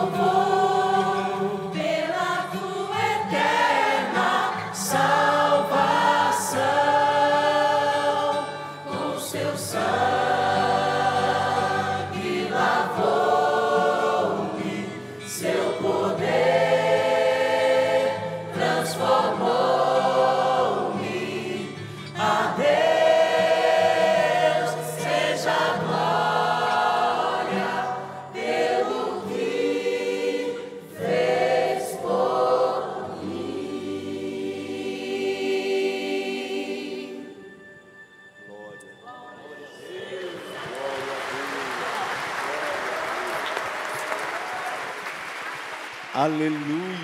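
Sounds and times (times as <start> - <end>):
choir singing gospel: 0.0 - 47.0.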